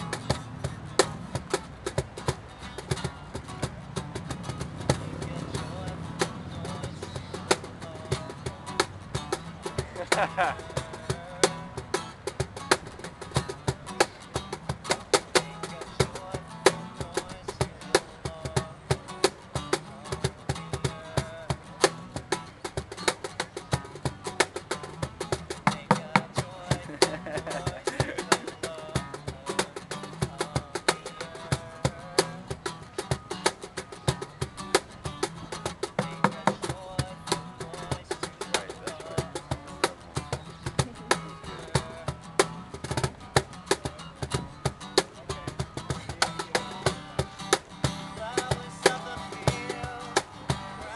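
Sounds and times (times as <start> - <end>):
acoustic guitar strumming: 0.0 - 50.9
cajon slaps: 0.0 - 50.9.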